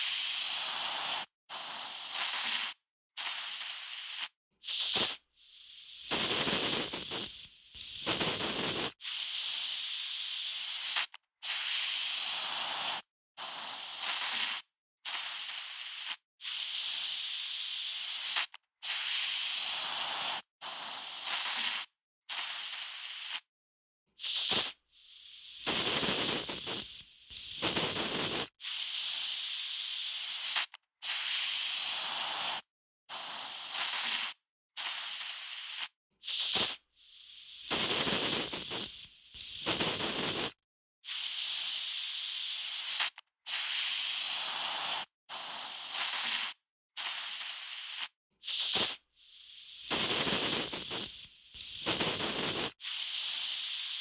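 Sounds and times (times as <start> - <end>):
aerosol spray can spraying: 0.0 - 23.5, 24.2 - 54.0.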